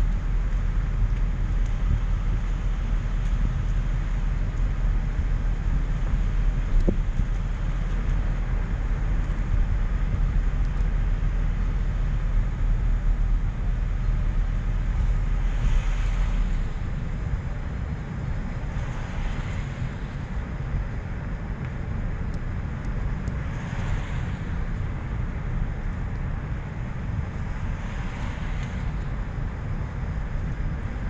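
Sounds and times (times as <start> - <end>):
low rumble of engine and road: 0.0 - 31.0.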